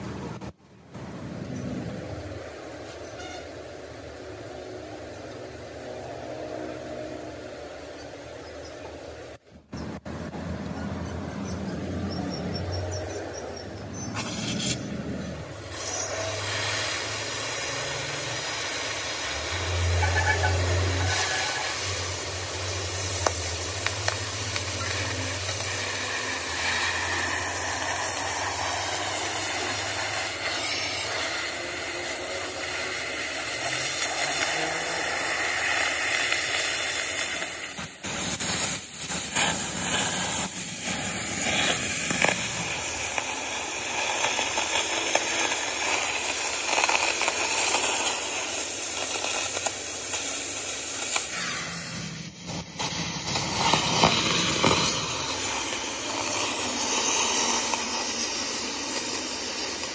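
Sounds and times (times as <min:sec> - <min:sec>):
cutting torch hissing: 0:00.0 - 0:59.9
sparks crackling: 0:00.0 - 0:59.9.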